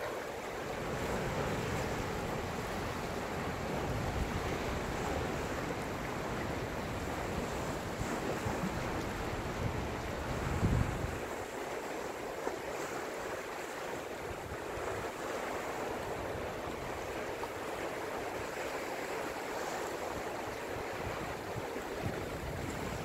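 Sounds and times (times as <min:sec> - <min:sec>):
waves breaking on rocks: 0:00.0 - 0:23.0.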